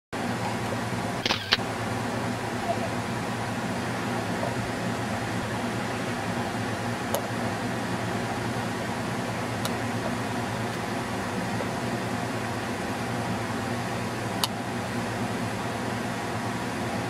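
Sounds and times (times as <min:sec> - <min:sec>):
mechanical hum: 0:00.2 - 0:17.0.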